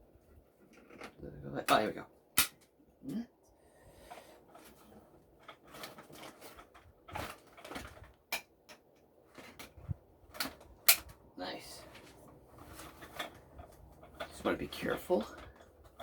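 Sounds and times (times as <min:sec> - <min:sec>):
plastic parts clicking and knocking: 0:00.3 - 0:02.8, 0:04.1 - 0:11.2, 0:11.9 - 0:16.0.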